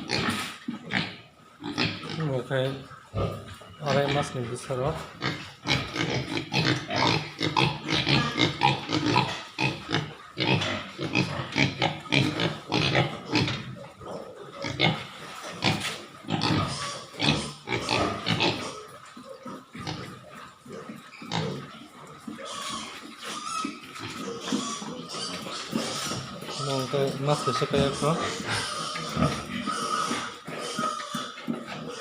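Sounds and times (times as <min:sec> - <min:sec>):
pigs grunting: 0:00.0 - 0:32.0.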